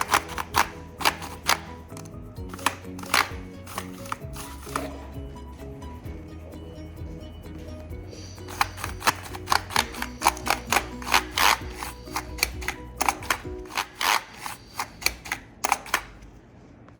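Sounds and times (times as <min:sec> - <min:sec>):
background music: 0:00.0 - 0:15.8.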